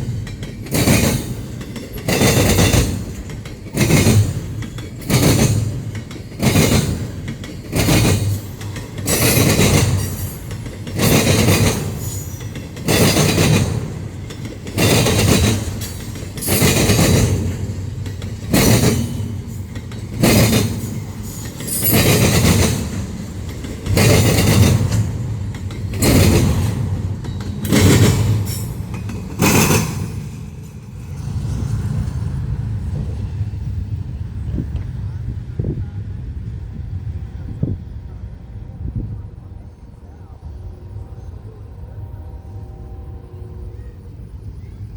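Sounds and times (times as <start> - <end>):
freight train passing: 0.0 - 44.9.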